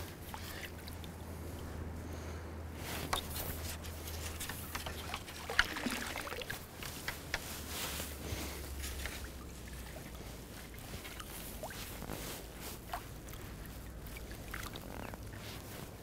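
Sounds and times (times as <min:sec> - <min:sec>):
light water splashes: 0:00.0 - 0:02.0, 0:02.8 - 0:16.0
water sloshing around wading person: 0:00.0 - 0:16.0.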